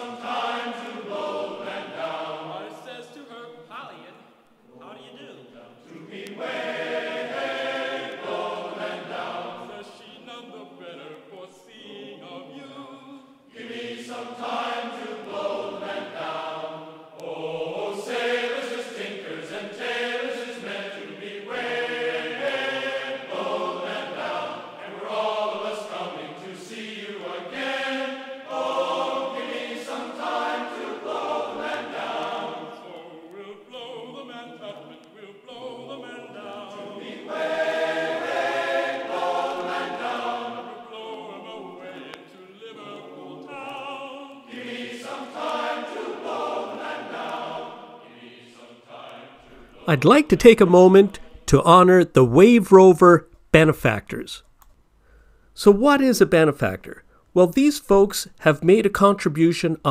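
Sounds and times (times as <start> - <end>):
choral singing: 0.0 - 51.5.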